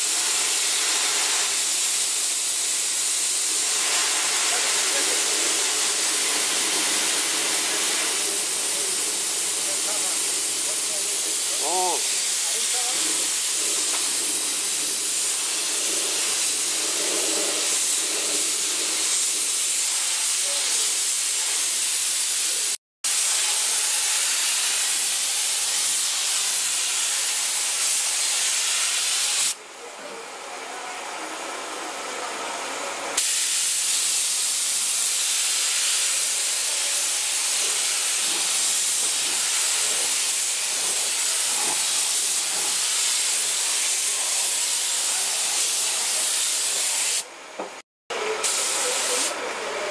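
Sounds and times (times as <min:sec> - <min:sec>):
air spray gun hissing: 0:00.0 - 0:29.6, 0:33.2 - 0:47.3, 0:48.2 - 0:49.4.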